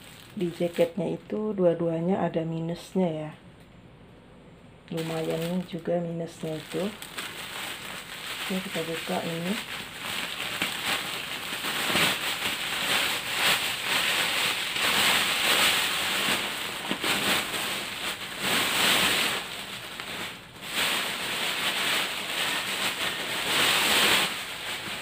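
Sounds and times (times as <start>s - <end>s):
plastic bag crinkling: 0.0s - 1.4s, 4.9s - 25.0s.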